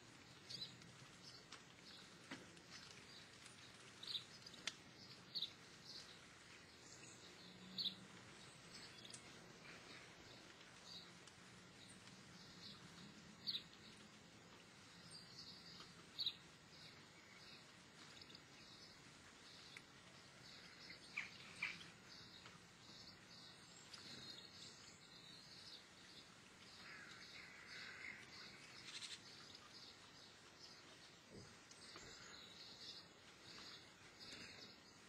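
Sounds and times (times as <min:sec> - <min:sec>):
songbirds chirping and twittering: 0:00.0 - 0:35.0.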